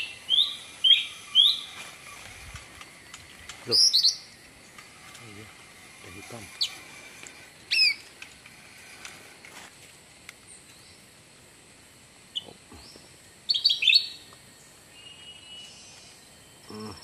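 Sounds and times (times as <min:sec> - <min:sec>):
birds chirping: 0:00.0 - 0:09.7, 0:12.2 - 0:17.0.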